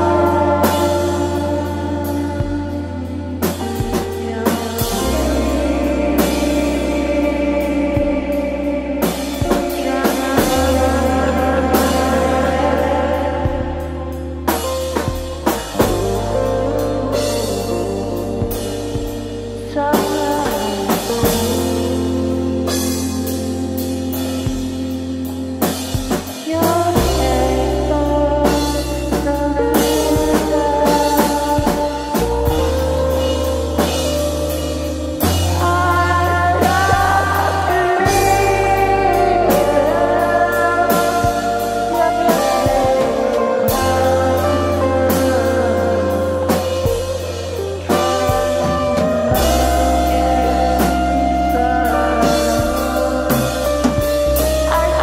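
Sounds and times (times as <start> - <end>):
bass notes: 0.0 - 55.0
drum kit steady beat: 0.0 - 55.0
sustained chords: 0.0 - 55.0.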